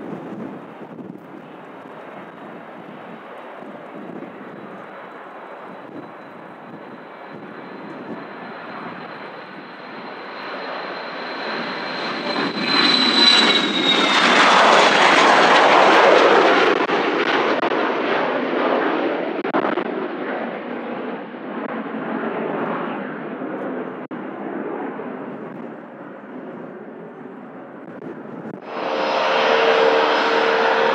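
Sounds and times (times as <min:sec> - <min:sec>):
jet passing with high whine: 0:00.0 - 0:27.0, 0:27.6 - 0:30.9
jet engine rush: 0:00.0 - 0:30.9.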